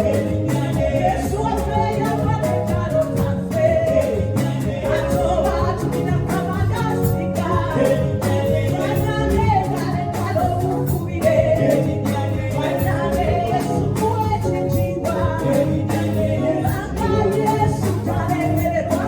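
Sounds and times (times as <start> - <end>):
full band with steady beat: 0.0 - 19.0
group singing gospel song: 0.0 - 19.0.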